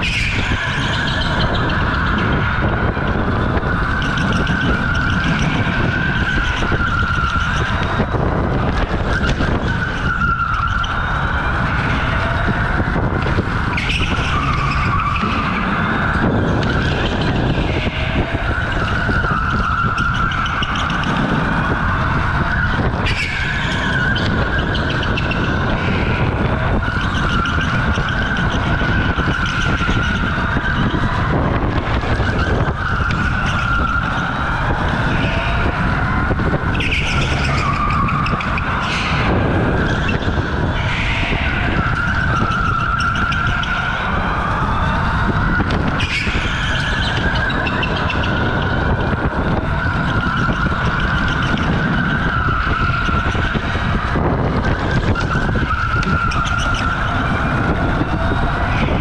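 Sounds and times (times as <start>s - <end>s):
electric go-kart motor whining: 0.0s - 59.0s
steady low rumble: 0.0s - 59.0s
tyres squealing: 0.0s - 59.0s.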